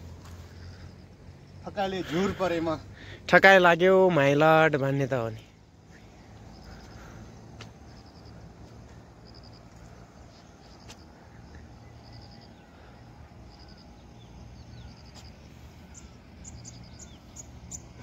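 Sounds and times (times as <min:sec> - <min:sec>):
insect chirping in trills: 0:00.0 - 0:03.5, 0:05.3 - 0:18.0
low outdoor rumble: 0:00.0 - 0:18.0.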